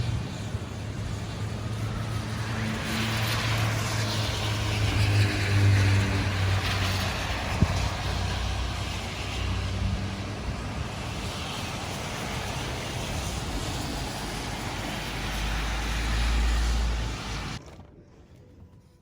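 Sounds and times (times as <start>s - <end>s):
storm wind buffeting microphone: 0.0s - 17.6s.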